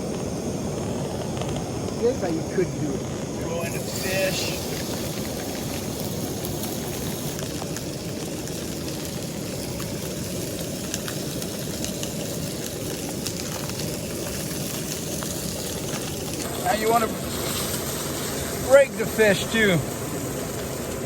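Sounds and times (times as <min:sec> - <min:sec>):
camp stove rushing noise: 0:00.0 - 0:21.0
fish frying in hot oil: 0:00.0 - 0:21.0.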